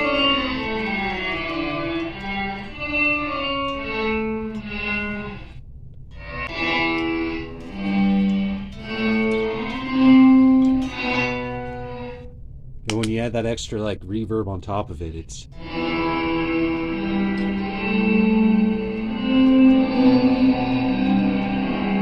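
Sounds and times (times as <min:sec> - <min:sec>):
electric guitar sustained notes: 0:00.0 - 0:12.4, 0:15.5 - 0:22.0.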